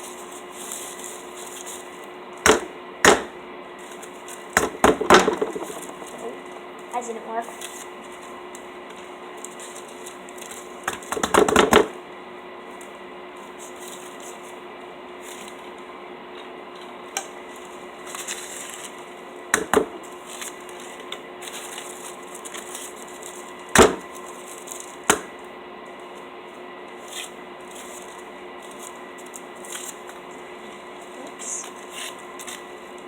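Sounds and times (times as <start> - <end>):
straw wrappers rustling: 0.0 - 2.4, 3.7 - 4.6, 5.3 - 10.9, 12.6 - 33.0
steady hum: 0.0 - 33.0.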